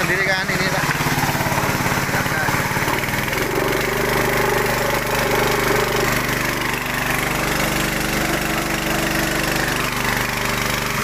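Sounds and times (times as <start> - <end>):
water gushing: 0.0 - 11.0
water pump engine running: 0.0 - 11.0.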